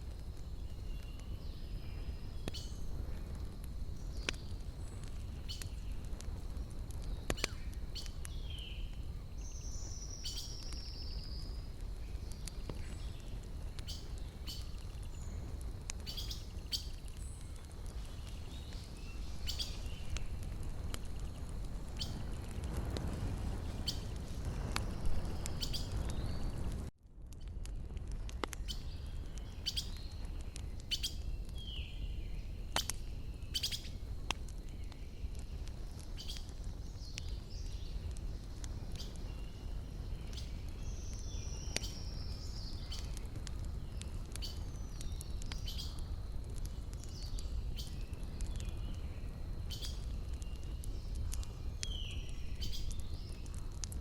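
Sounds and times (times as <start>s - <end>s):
wood fire crackling and popping: 0.0s - 54.0s
small birds chirping: 0.4s - 26.9s, 28.4s - 54.0s.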